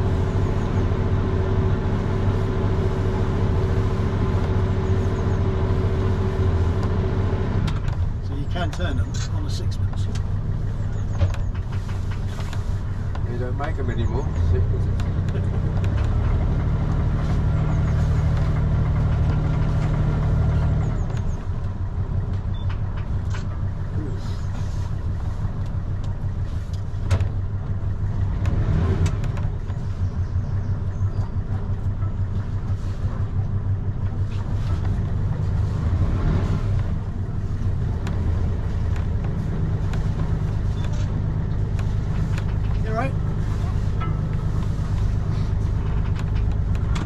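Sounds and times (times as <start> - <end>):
boat engine running: 0.0 - 47.0.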